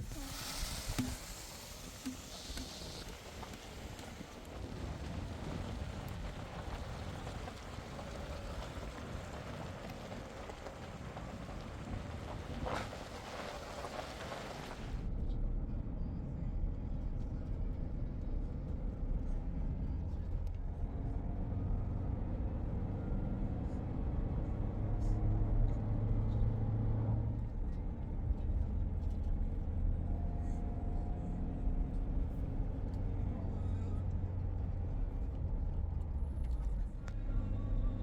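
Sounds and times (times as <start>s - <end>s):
vehicle engine running: 0.9s - 38.0s.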